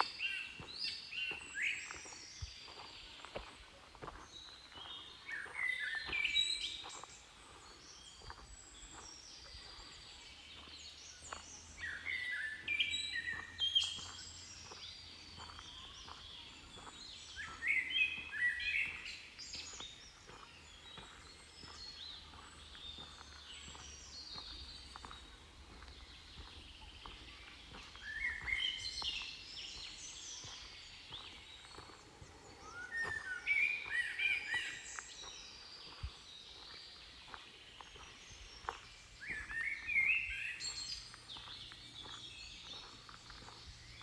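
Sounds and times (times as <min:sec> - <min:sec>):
small songbirds chirping: 0:00.0 - 0:44.0.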